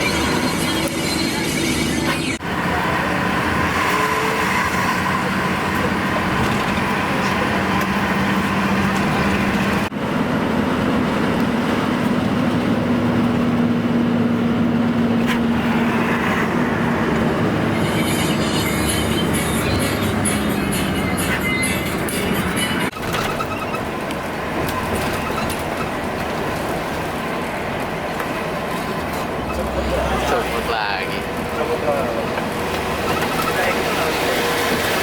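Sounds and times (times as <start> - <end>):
road noise: 0.0 - 35.0
vehicle engine hum: 0.0 - 35.0.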